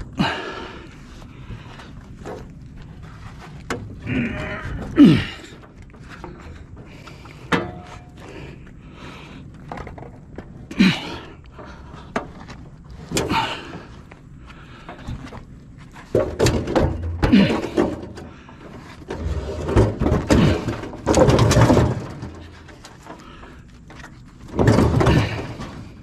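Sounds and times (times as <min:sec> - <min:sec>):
heavy objects clunking and scraping: 0:00.0 - 0:26.0.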